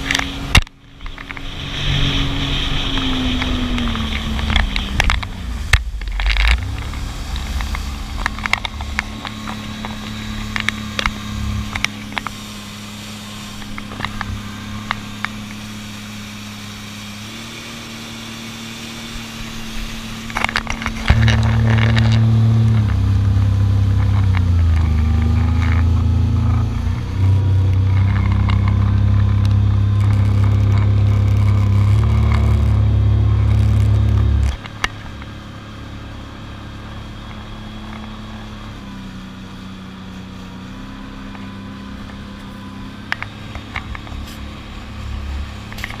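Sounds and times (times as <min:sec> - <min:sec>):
jet ski engine running: 0:00.0 - 0:46.0.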